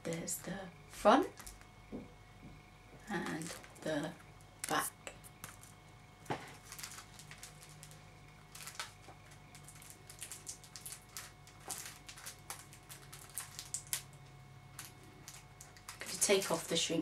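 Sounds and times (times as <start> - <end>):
plastic wrap crinkling: 0.1 - 1.7, 3.1 - 17.0.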